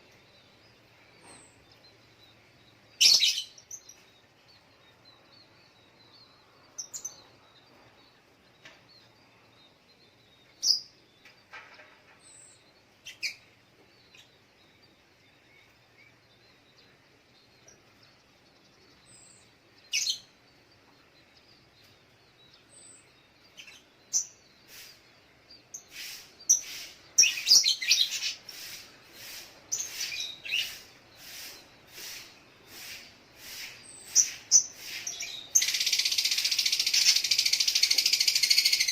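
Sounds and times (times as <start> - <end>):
sunbird high chirps: 0.0 - 38.9.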